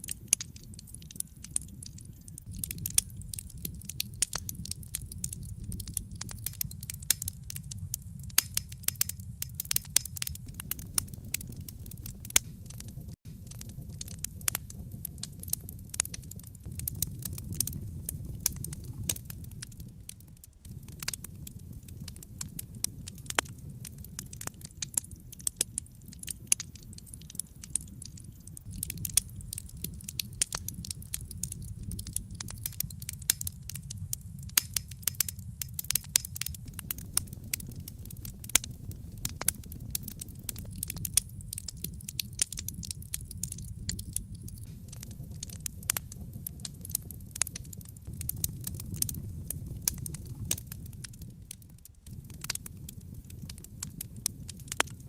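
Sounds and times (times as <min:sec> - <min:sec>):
low rumble of flame: 0:00.0 - 0:55.0
wood fire crackling: 0:00.0 - 0:55.0.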